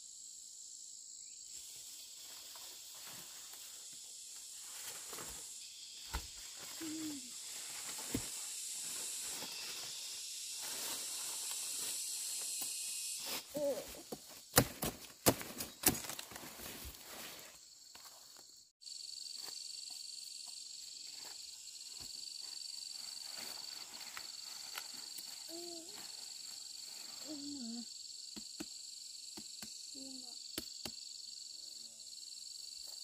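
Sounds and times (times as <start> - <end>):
high-pitched insect trill: 0.0 - 33.0
insects droning: 0.0 - 33.0.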